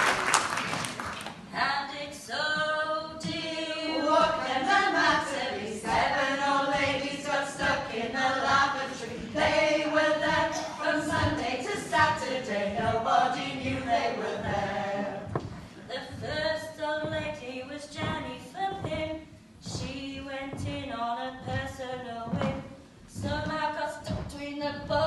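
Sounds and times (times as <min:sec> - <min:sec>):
women singing a cappella: 0:01.5 - 0:25.0.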